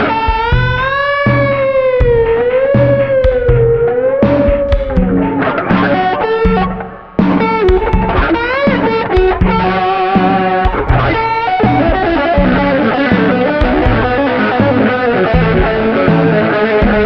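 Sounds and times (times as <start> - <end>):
bass line: 0.0 - 17.0
electric guitar lead: 0.0 - 17.0.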